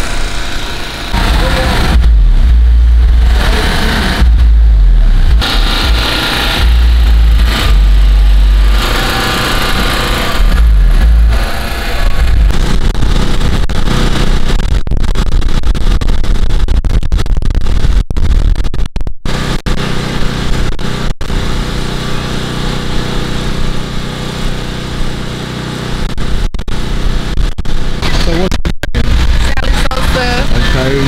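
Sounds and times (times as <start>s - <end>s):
small engine running: 0.0s - 14.7s, 19.3s - 31.0s.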